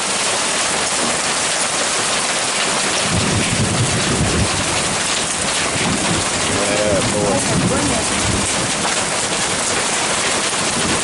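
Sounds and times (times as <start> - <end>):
hail and rain falling: 0.0 - 11.0.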